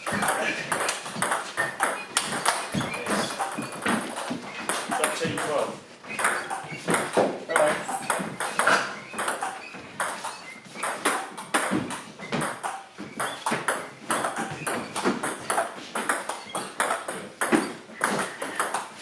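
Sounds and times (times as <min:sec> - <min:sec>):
rackets striking ball: 0:00.0 - 0:19.0.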